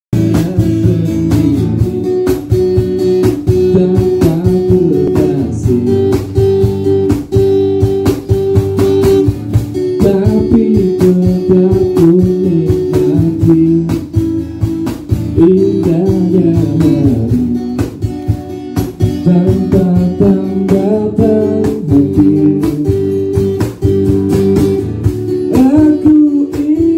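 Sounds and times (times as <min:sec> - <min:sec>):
cajon beat: 0:00.1 - 0:26.9
acoustic guitar strumming: 0:00.2 - 0:26.9.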